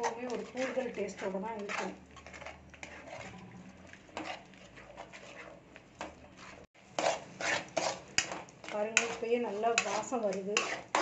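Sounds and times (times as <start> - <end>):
metal spatula scraping metal pan: 0.0 - 11.0.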